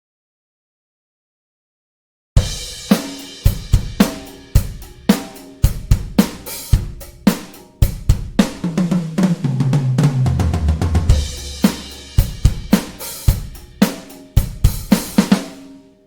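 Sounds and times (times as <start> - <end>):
tom drum fill: 2.4 - 15.7
drum kit groove: 2.4 - 16.0.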